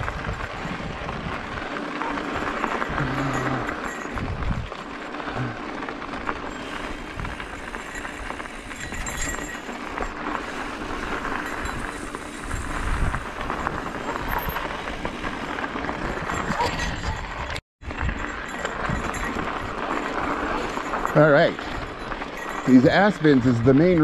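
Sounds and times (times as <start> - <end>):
bike rattling and clicking: 0.0 - 24.0
bike tyres crunching on dirt: 0.0 - 24.0.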